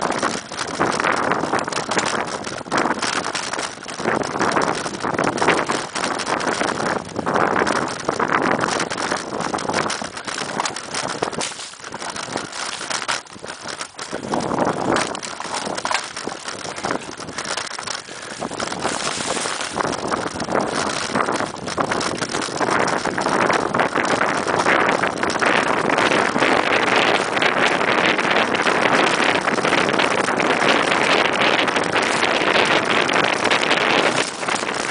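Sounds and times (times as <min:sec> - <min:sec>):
bike rattling and knocking: 0:00.0 - 0:34.9
tyres on dirt: 0:00.0 - 0:34.9
wind buffeting microphone: 0:00.0 - 0:34.9.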